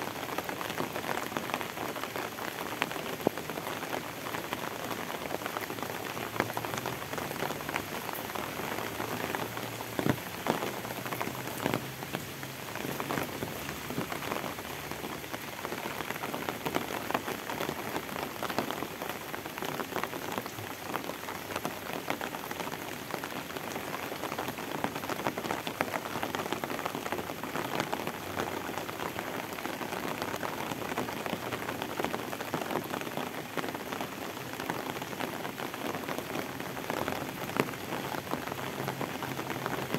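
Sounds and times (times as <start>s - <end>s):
rain on pavement and plants: 0.0s - 39.9s.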